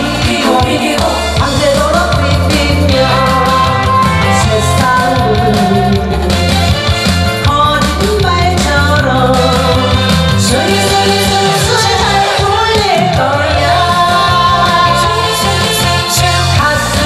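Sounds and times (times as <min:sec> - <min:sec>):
woman singing into microphone: 0:00.0 - 0:06.6, 0:07.4 - 0:17.0
backing track with beat: 0:00.0 - 0:17.0.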